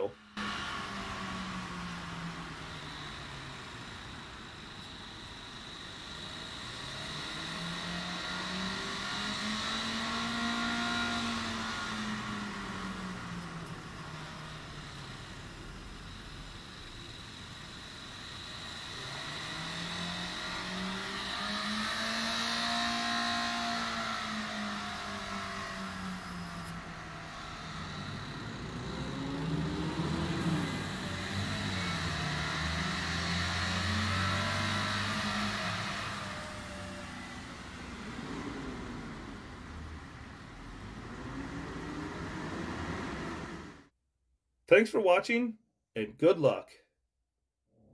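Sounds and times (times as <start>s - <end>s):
diesel engine revs surging: 0.0s - 43.9s.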